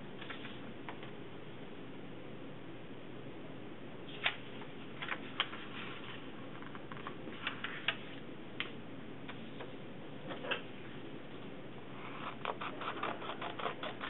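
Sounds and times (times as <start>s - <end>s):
steady low hiss: 0.0s - 12.6s.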